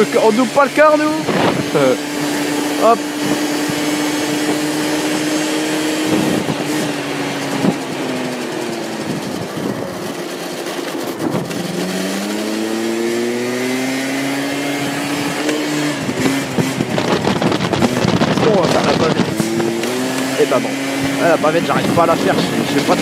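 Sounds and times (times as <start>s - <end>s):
scooter engine accelerating: 0.0s - 23.0s
wind rushing over microphone: 0.0s - 23.0s.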